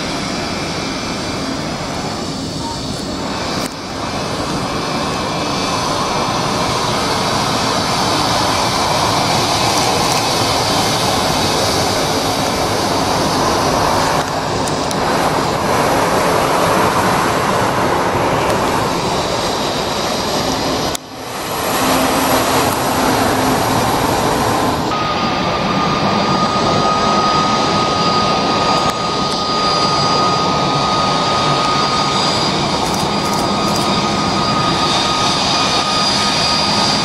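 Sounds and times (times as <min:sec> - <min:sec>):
jet engines at taxi power: 0:00.0 - 0:37.0.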